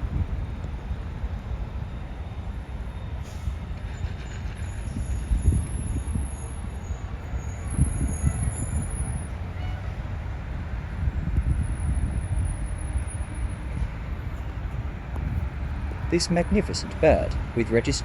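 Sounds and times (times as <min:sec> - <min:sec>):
distant jet engines rumbling: 0:00.0 - 0:18.0
wind buffeting microphone: 0:00.0 - 0:18.0.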